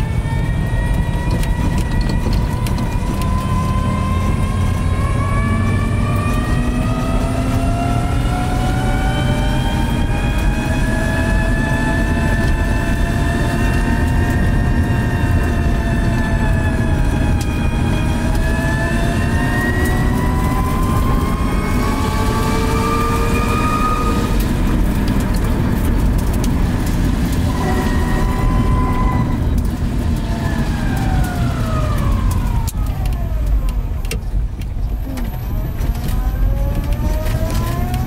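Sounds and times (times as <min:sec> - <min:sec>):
electric motor whine: 0:00.0 - 0:25.4, 0:27.2 - 0:33.8, 0:35.9 - 0:38.0
tyre rumble on rough road: 0:00.0 - 0:38.0.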